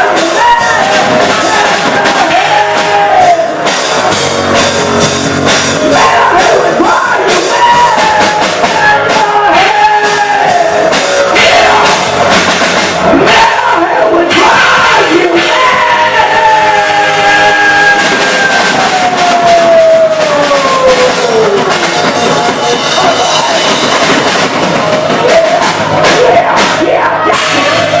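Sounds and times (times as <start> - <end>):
loud rock music: 0.0 - 28.0.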